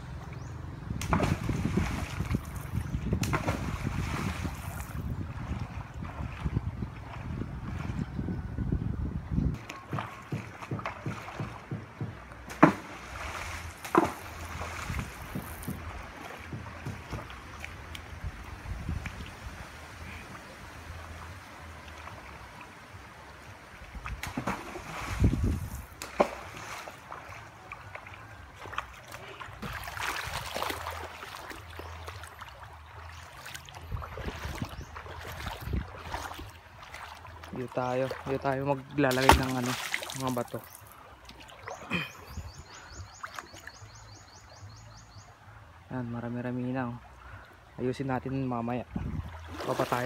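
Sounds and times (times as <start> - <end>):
loud water splashes: 0.0 - 7.8, 9.6 - 23.1, 23.9 - 43.8, 48.8 - 50.0
person wading through water: 0.0 - 8.2, 9.6 - 45.9, 47.0 - 50.0
stream flowing: 0.0 - 8.3, 9.0 - 50.0.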